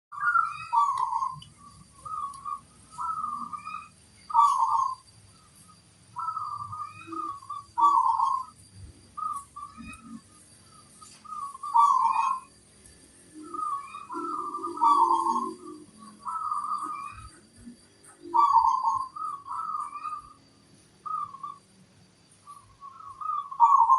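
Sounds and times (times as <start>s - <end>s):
dove cooing: 0.2s - 5.0s, 6.2s - 12.5s, 13.3s - 20.4s, 21.0s - 21.6s, 22.4s - 23.9s.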